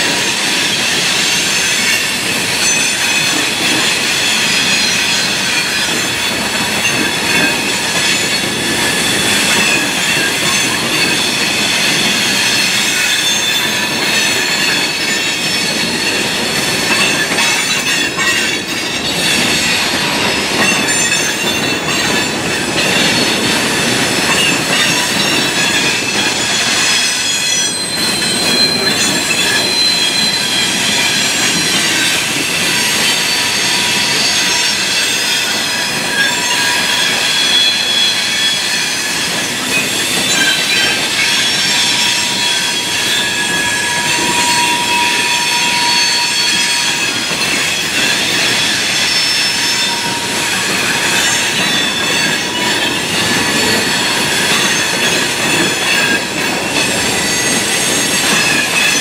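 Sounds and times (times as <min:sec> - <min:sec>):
train cars rolling rumble: 0:00.0 - 0:59.0
train wheels squealing on rails: 0:00.0 - 0:59.0.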